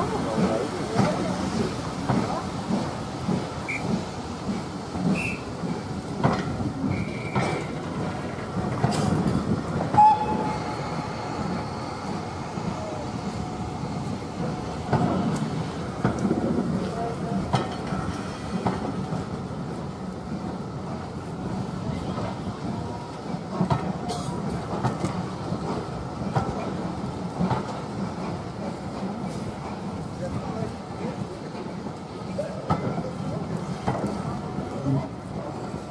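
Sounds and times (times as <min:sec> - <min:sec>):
steam train rumbling: 0:00.0 - 0:35.9.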